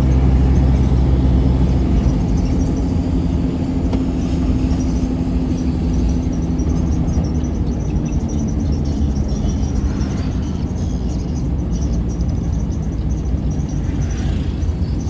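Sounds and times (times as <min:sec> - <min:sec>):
vehicle rumbling on road: 0:00.0 - 0:15.0.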